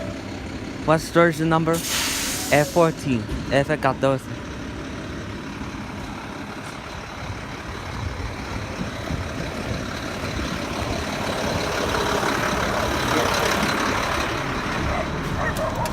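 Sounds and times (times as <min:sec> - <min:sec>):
garbage truck diesel engine running: 0:00.0 - 0:15.9.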